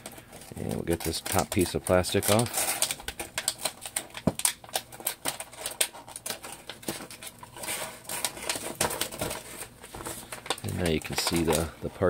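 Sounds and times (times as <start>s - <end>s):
plastic packaging crackling: 0.0s - 12.0s.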